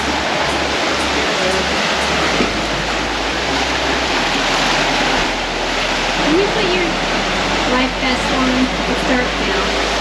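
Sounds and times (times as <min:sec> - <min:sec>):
water rushing past hull: 0:00.0 - 0:10.0.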